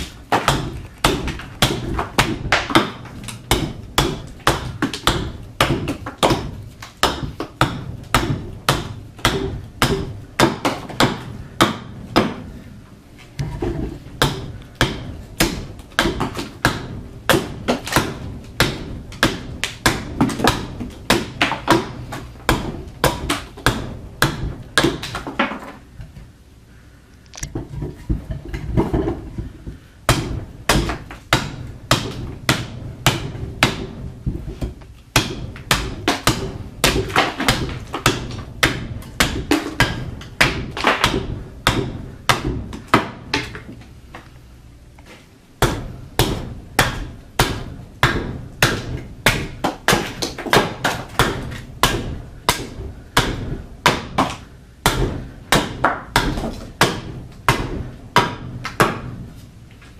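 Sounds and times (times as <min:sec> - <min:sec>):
axe chopping a log: 0:00.0 - 0:12.5, 0:14.2 - 0:25.7, 0:28.1 - 0:43.8, 0:45.6 - 0:59.2.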